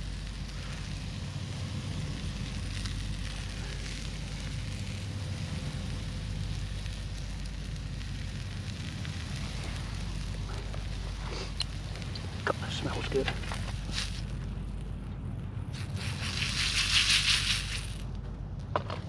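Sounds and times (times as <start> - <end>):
greens sizzling in a pan: 0.0 - 14.4, 15.8 - 18.0
stove flame rushing: 0.0 - 19.0.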